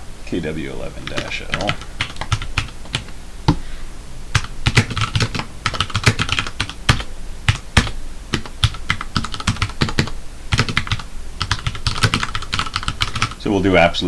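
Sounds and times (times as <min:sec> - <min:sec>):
keyboard typing: 0:00.9 - 0:13.4.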